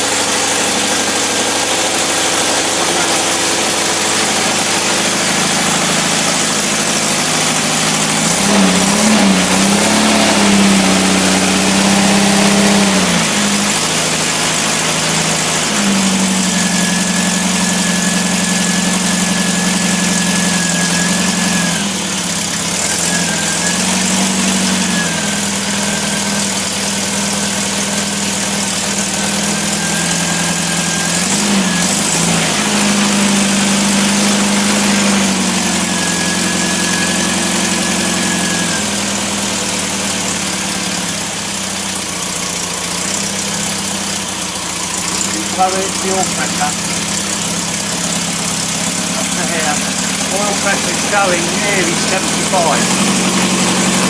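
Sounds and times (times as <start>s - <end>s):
car engine running on test stand: 0.0s - 54.0s.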